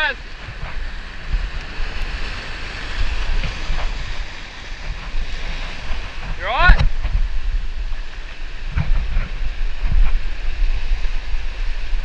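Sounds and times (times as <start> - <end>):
waves washing over rock: 0.0 - 12.0
wind rumble on microphone: 0.0 - 12.0.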